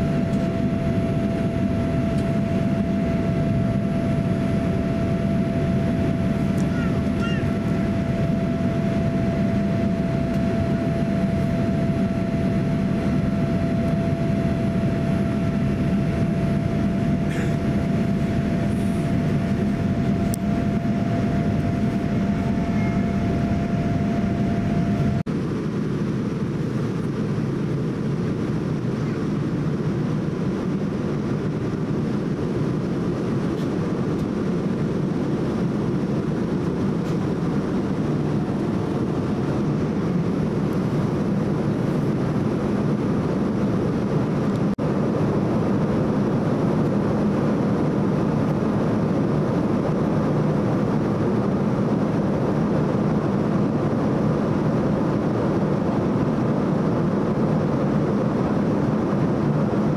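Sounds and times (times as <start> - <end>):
airplane cabin engine rumble: 0.0 - 59.9
faint steady whine: 0.0 - 59.9.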